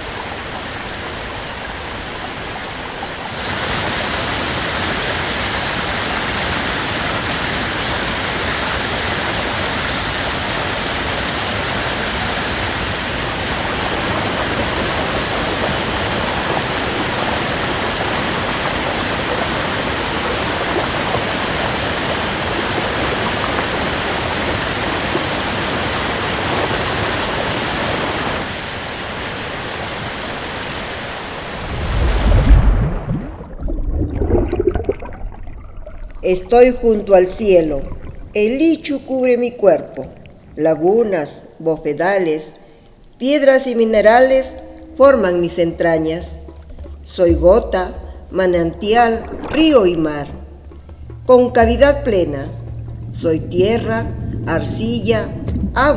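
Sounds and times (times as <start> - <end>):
water rushing over rocks: 0.0 - 38.6, 48.2 - 55.9.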